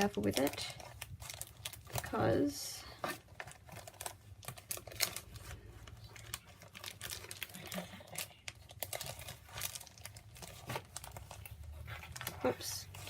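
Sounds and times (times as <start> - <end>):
paper wrapping crinkling: 0.0 - 13.0.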